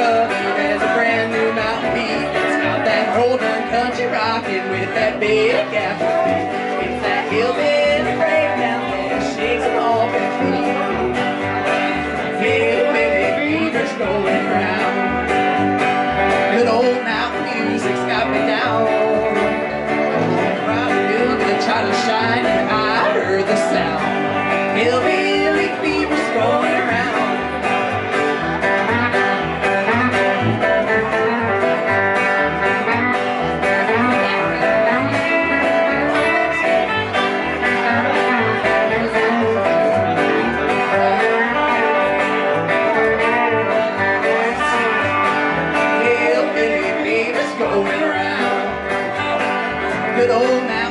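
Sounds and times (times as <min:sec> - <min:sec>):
electric guitar: 0:00.0 - 0:50.9
plucked upright bass: 0:00.0 - 0:50.9
strummed acoustic guitar: 0:00.0 - 0:50.9.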